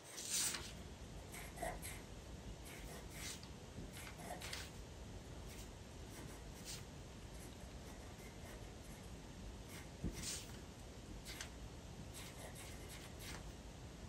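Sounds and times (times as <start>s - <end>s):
pencil scratching on paper: 0.0s - 4.8s, 5.4s - 10.6s, 11.2s - 13.5s.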